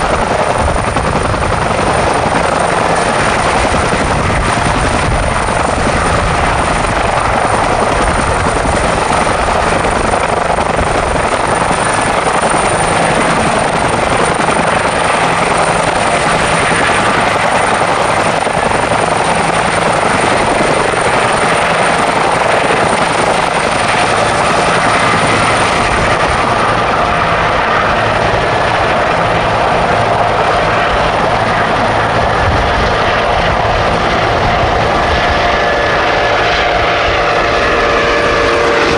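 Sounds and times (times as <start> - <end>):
helicopter rotors and engines: 0.0 - 38.9.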